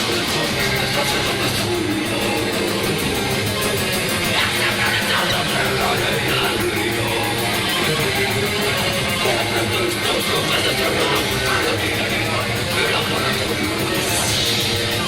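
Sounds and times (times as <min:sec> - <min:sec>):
bass: 0:00.0 - 0:15.0
distorted electric guitars: 0:00.0 - 0:15.0
drums: 0:00.0 - 0:15.0.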